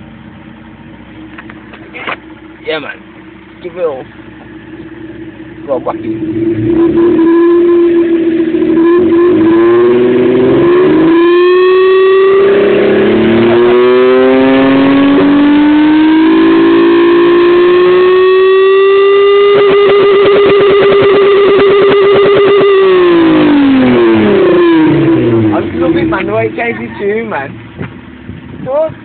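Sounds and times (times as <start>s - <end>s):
car engine revving hard: 4.5s - 27.8s.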